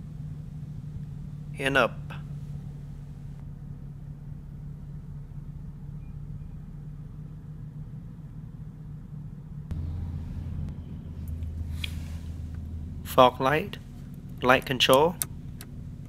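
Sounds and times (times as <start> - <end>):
car engine idling hum: 0.0 - 16.0
deeper hum: 0.0 - 16.0.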